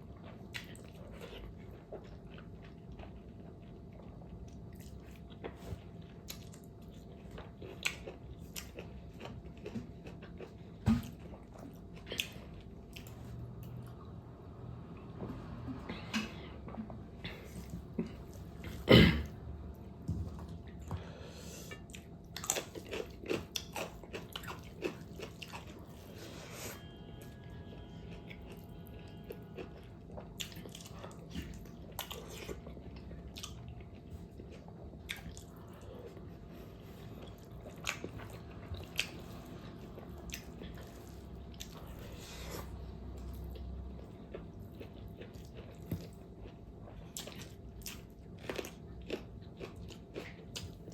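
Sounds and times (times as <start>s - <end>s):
chewing and biting food: 0.0s - 14.1s, 21.7s - 50.9s.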